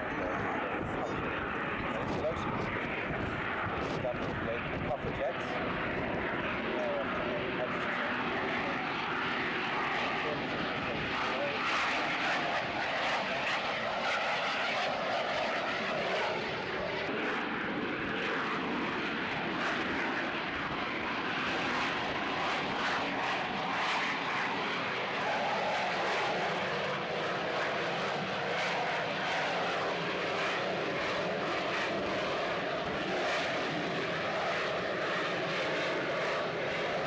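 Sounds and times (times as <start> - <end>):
jet engine roar: 0.0 - 37.0.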